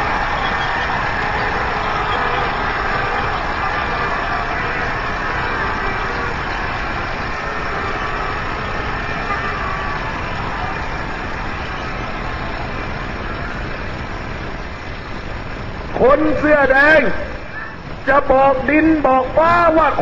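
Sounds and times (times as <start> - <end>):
crowd cheering and shouting: 0.0 - 20.0.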